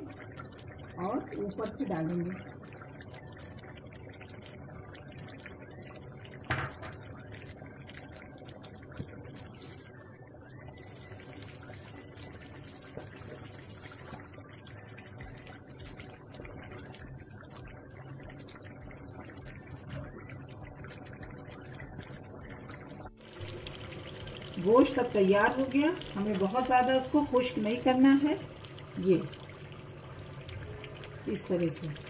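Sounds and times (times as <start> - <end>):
curry bubbling in a frying pan: 0.0 - 32.0.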